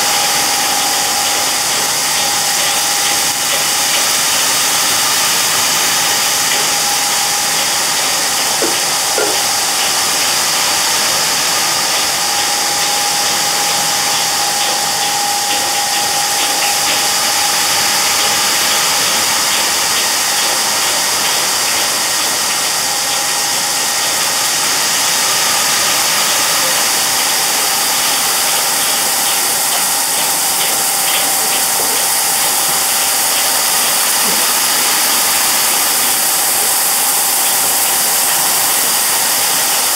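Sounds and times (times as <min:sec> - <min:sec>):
grains ticking on metal: 0:00.0 - 0:24.3, 0:26.3 - 0:39.9
machine hum: 0:00.0 - 0:39.9
sugar grains hissing in pan: 0:00.0 - 0:39.9.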